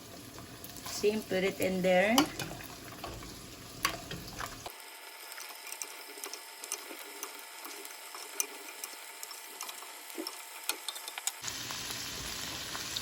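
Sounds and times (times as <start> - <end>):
low background hum: 0.0 - 12.8
food sizzling in oil: 0.0 - 13.0.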